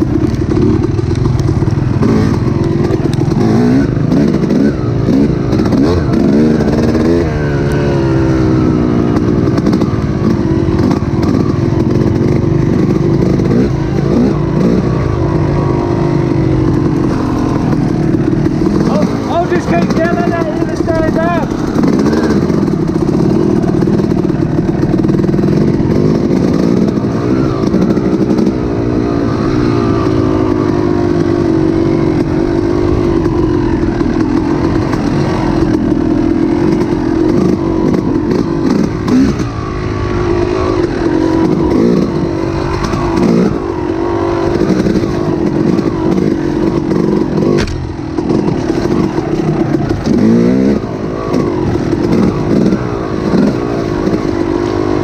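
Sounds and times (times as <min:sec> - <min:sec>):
engine running with wavering pitch: 0:00.0 - 0:55.0.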